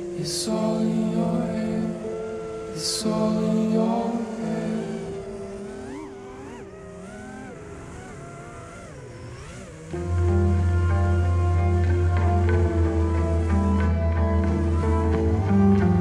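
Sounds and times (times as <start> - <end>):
background music: 0.0 - 16.0
drone motors whining: 0.0 - 16.0.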